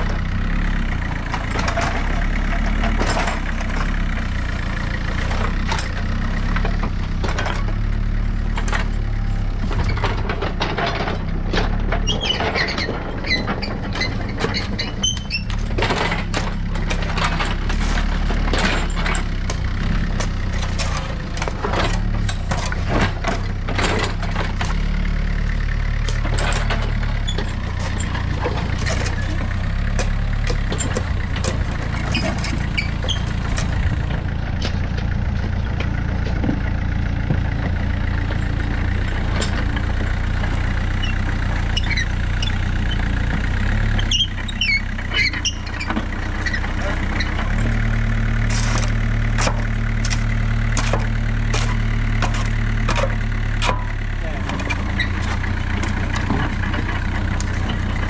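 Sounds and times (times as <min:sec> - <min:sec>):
diesel excavator engine running: 0:00.0 - 0:58.0
excavator clanks and knocks: 0:00.0 - 0:58.0.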